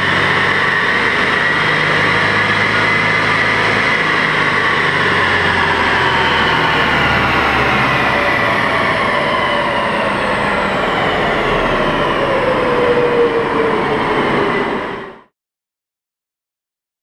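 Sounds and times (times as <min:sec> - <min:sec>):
diesel engine running: 0:00.0 - 0:15.2
tyres whining on rollers: 0:00.0 - 0:15.3.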